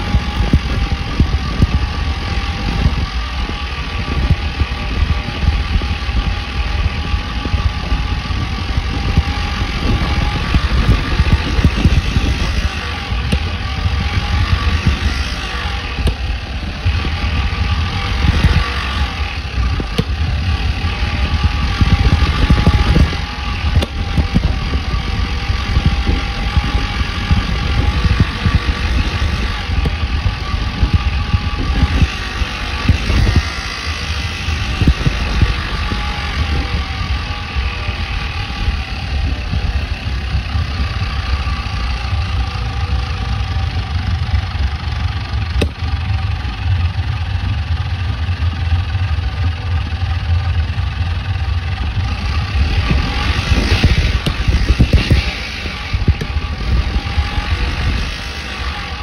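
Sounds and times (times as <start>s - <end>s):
muffled bike ride rumble: 0.0s - 59.0s.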